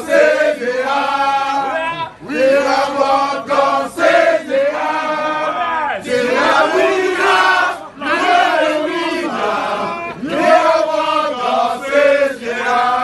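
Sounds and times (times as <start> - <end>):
group of people chanting: 0.0 - 13.0.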